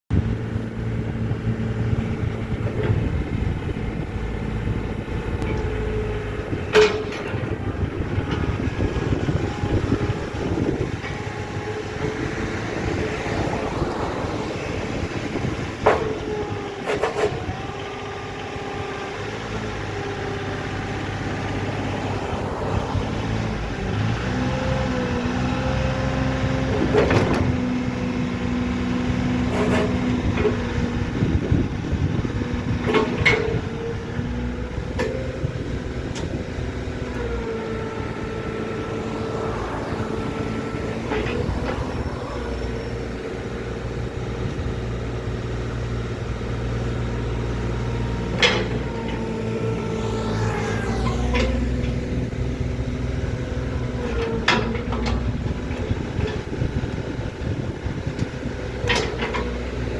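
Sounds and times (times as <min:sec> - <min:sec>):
excavator diesel engine under load: 0:00.1 - 0:59.9.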